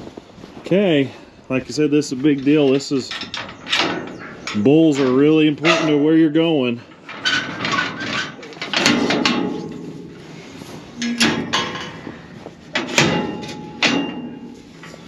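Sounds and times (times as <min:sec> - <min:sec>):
metal gate clanking and rattling: 0:02.1 - 0:15.0.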